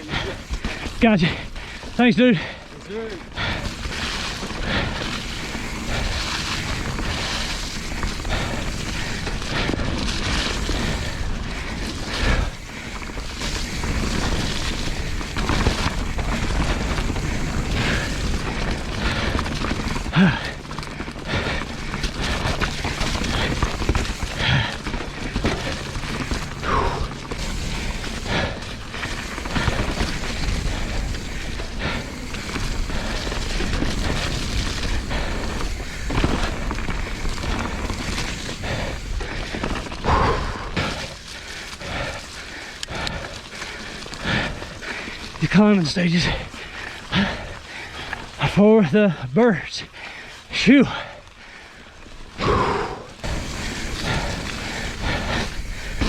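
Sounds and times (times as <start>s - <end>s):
mountain bike rattling and knocking: 0.0s - 56.0s.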